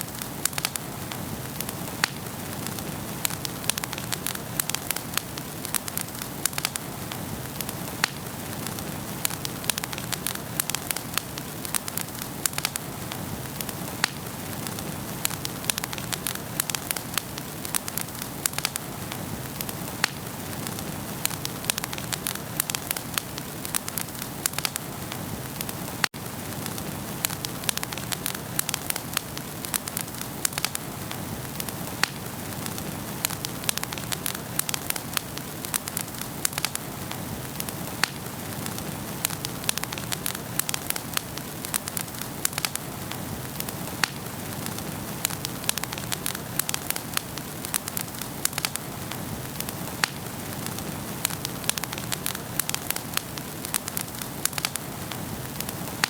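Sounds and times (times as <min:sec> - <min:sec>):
fire crackling and popping: 0:00.0 - 0:56.0
fire hissing: 0:00.0 - 0:56.0.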